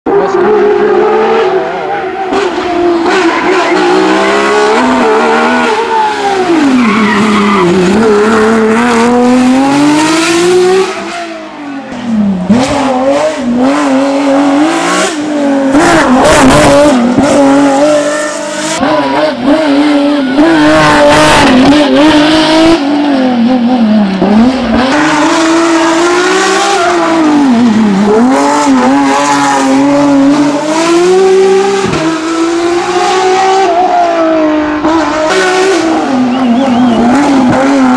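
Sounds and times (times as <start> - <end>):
racing car engine revving: 0.1 - 37.9.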